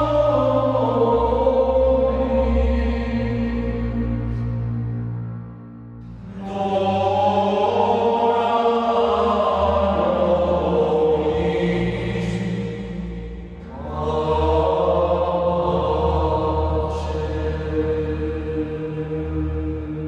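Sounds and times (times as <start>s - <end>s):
voices singing a slow chant: 0.0s - 20.0s.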